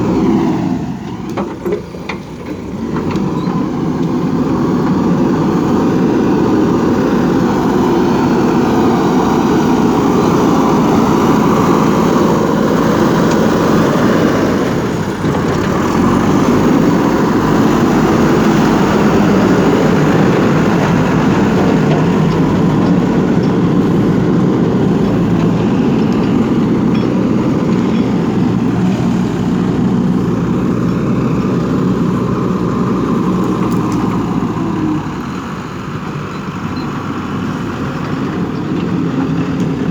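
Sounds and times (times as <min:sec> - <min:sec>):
backhoe diesel engine rumbling: 0:00.0 - 0:39.9.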